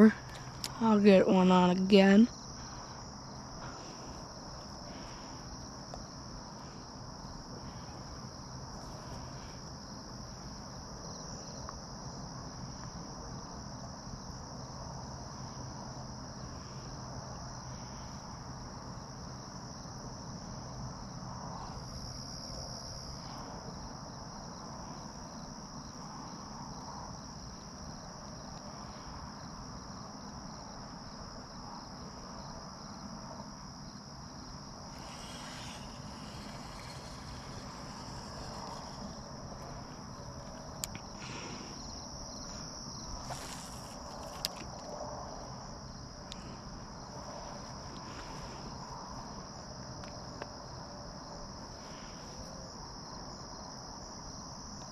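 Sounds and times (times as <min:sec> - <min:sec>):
low background hiss: 0:00.0 - 0:44.1
crickets trilling: 0:00.0 - 0:54.9.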